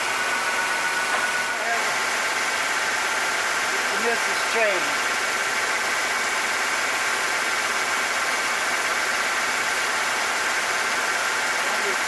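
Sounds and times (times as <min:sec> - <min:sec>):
engine idling with misfire: 0:00.0 - 0:12.0.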